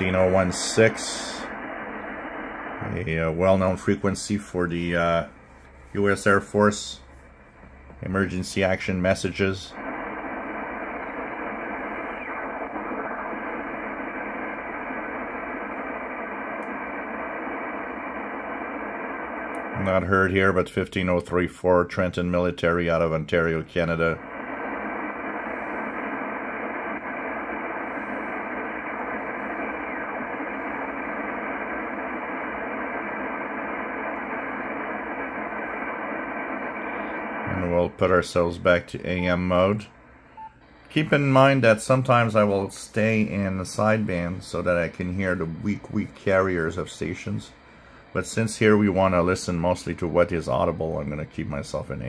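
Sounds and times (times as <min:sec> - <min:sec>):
shortwave radio hiss: 0:00.0 - 0:52.0.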